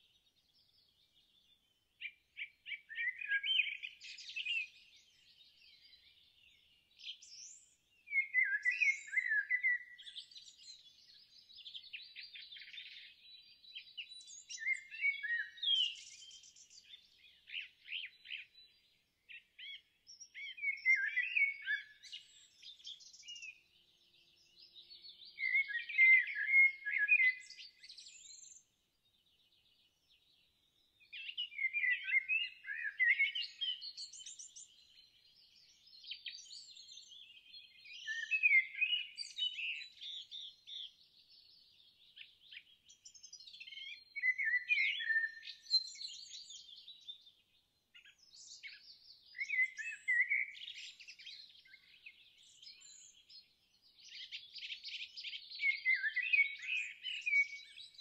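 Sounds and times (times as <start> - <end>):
songbirds warbling: 2.0 - 28.7, 31.1 - 58.0.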